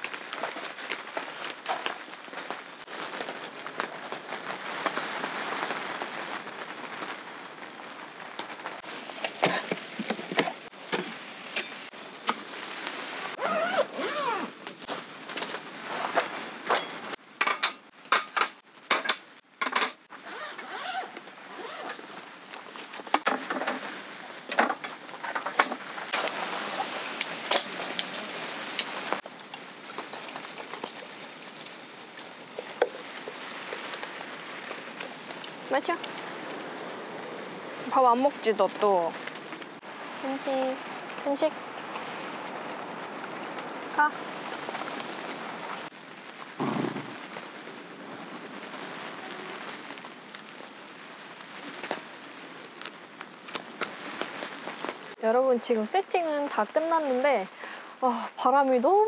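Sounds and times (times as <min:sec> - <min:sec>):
rain pattering on tent: 0:00.0 - 0:59.0.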